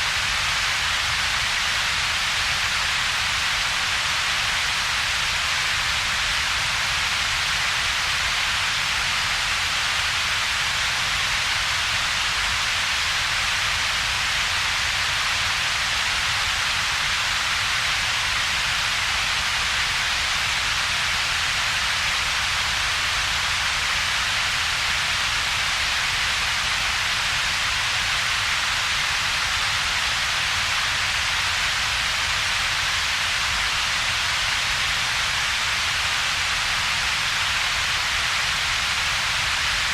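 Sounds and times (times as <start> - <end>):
synthetic steady hiss: 0.0 - 39.9.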